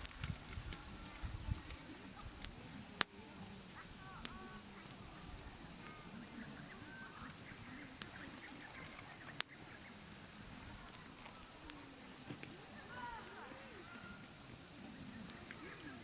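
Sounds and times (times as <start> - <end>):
campfire crackling: 0.0 - 16.0
fire pops: 0.0 - 16.0.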